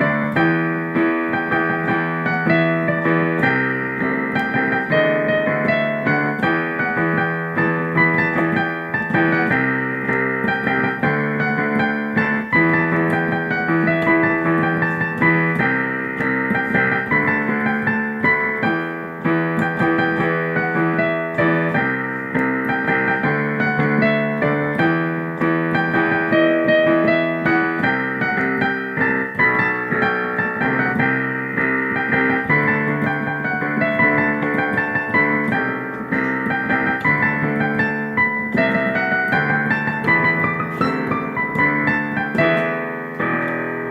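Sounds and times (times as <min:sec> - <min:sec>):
piano theme song: 0:00.0 - 0:43.9.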